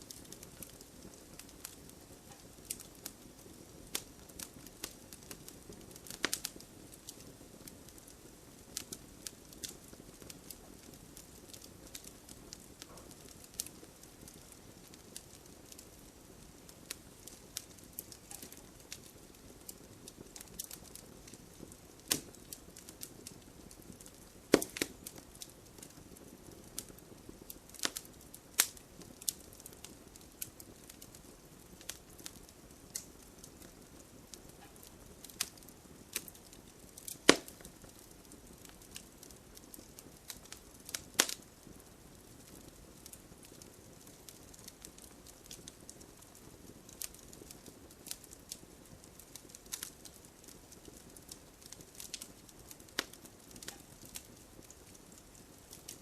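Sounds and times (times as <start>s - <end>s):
fire crackling and popping: 0.0s - 56.0s
low hiss of fire: 0.0s - 56.0s.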